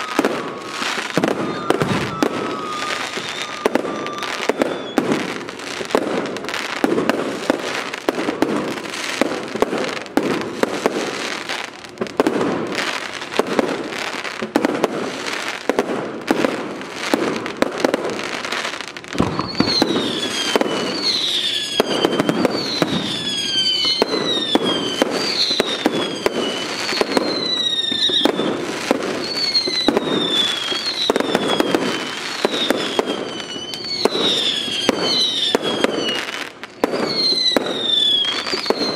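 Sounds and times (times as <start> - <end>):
firework bangs and crackling: 0.0 - 38.9
whistling fireworks: 0.0 - 38.9.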